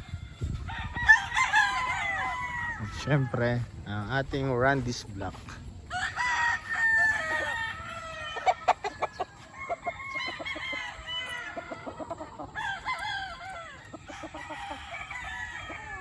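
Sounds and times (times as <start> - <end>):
roosters crowing: 0.0 - 16.0.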